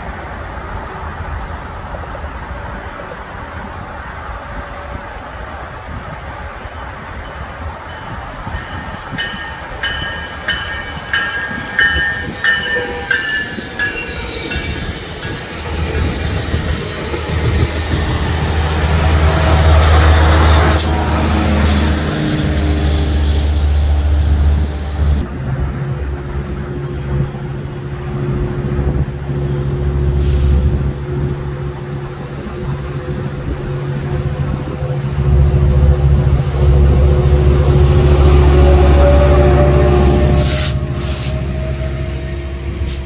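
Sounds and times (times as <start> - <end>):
diesel locomotive drone: 0.0 - 43.0
train wheel and rail noise: 0.0 - 43.0.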